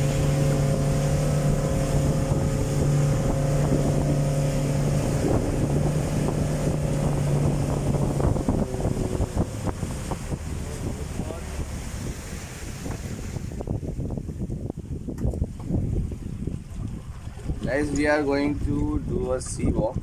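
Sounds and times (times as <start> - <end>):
motorboat engine running: 0.0 - 20.0
water rushing along hull: 0.0 - 20.0
wind buffeting microphone: 0.0 - 20.0.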